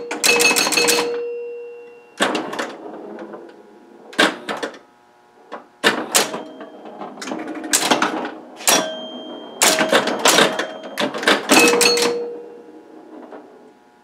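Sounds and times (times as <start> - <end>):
pinball ringing tones: 0.0 - 4.5, 5.8 - 13.7
pinball machine mechanical clacks: 0.0 - 14.0.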